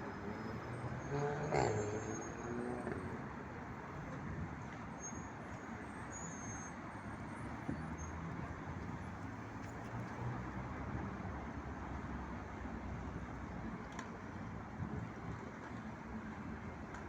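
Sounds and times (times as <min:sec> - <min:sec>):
road and cabin noise: 0:00.0 - 0:17.0.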